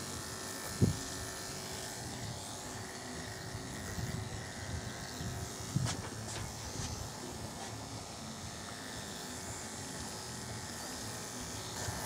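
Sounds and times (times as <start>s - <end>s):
electric clippers humming: 0.0s - 12.0s.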